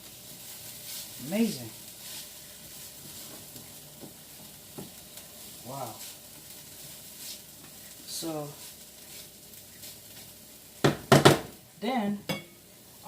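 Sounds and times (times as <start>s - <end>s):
eggs sizzling in oil: 0.0s - 13.0s.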